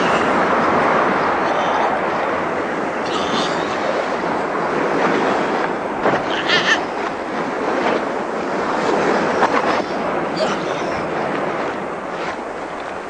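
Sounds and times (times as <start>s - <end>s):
crashing sea water: 0.0s - 13.0s.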